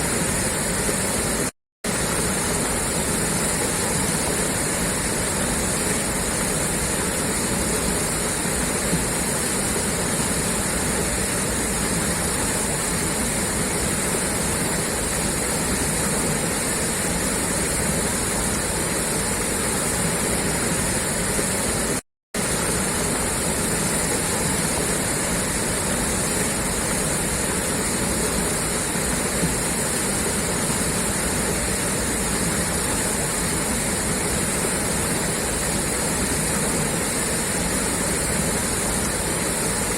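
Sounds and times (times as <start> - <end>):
water gushing from pipe: 0.0 - 39.9.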